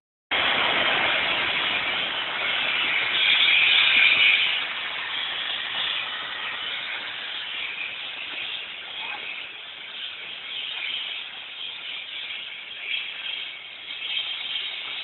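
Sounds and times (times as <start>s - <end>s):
steam locomotive hissing steam: 0.3s - 15.0s.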